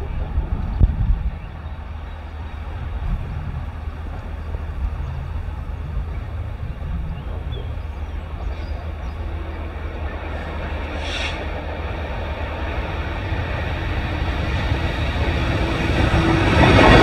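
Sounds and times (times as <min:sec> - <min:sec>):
distant train rumble: 0:00.0 - 0:17.0.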